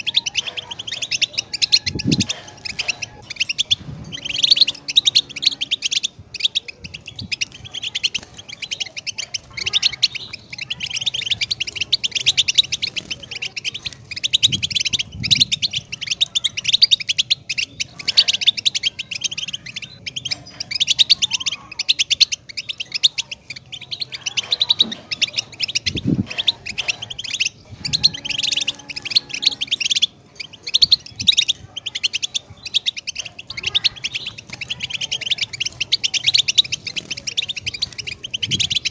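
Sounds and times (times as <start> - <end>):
goldfinch twittering song: 0.0 - 38.9.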